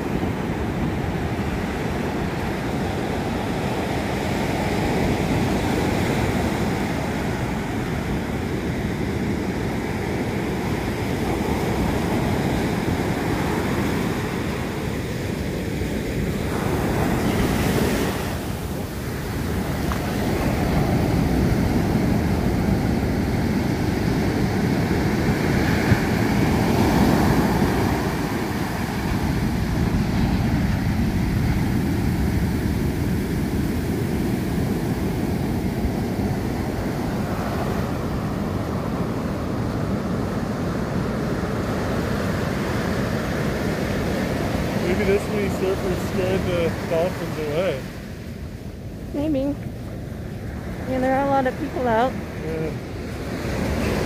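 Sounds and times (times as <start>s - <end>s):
ocean surf breaking: 0.0s - 54.0s
wind buffeting microphone: 0.0s - 54.0s.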